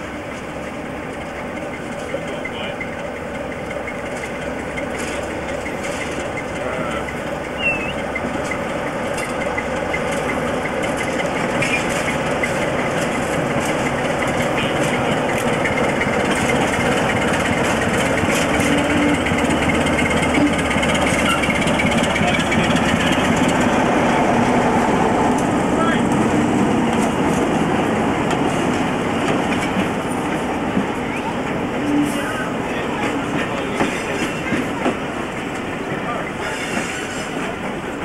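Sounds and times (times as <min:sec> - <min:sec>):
diesel locomotive engine: 0:00.0 - 0:38.0.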